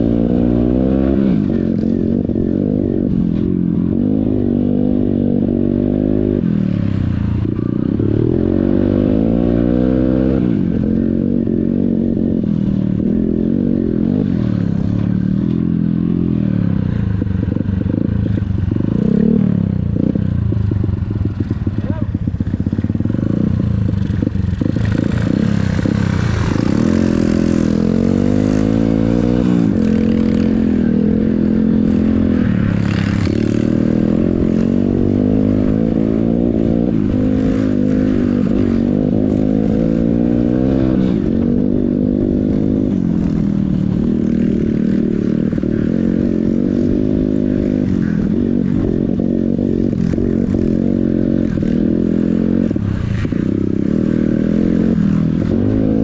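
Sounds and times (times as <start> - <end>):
motorcycle engine revving: 0.0 - 56.0
motorcycle rattling: 0.0 - 56.0.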